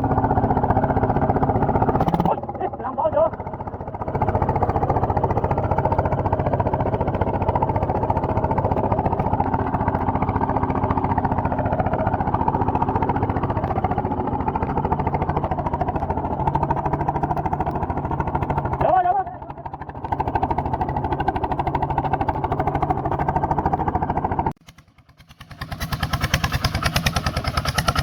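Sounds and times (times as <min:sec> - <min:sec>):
small tractor engine running: 0:00.0 - 0:28.0.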